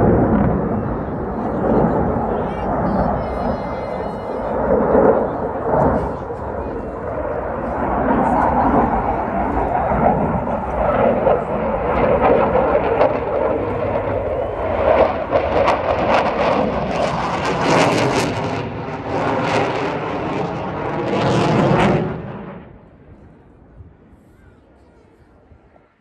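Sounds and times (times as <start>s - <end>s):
jet engines roaring overhead: 0.0s - 26.0s.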